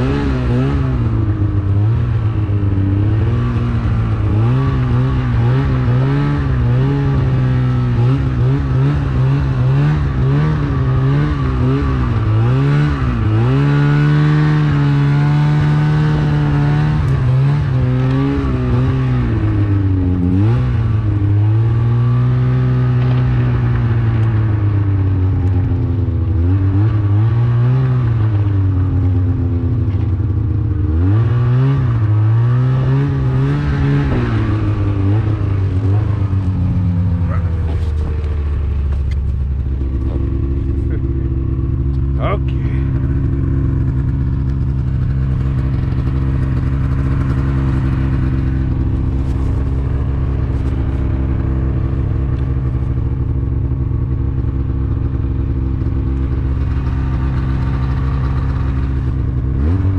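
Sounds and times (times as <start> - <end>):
snowmobile engine revving: 0.0 - 29.2, 30.8 - 59.9.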